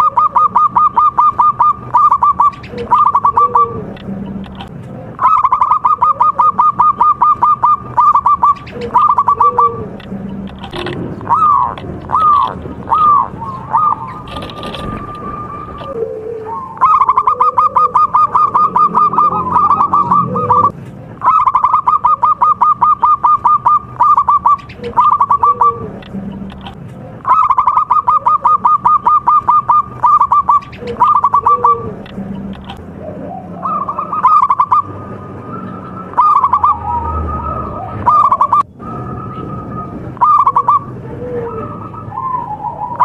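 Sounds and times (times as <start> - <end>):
dove staccato song: 0.0 - 38.8, 39.4 - 43.0.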